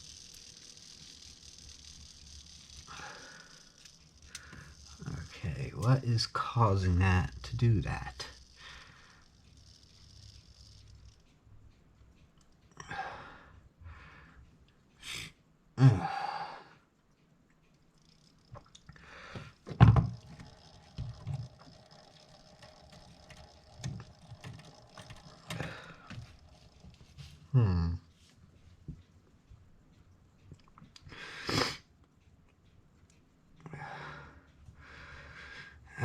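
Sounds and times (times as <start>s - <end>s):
clock mechanism clicks and rustles: 0.0s - 15.0s, 17.0s - 36.0s
faint steady hum: 0.0s - 36.0s.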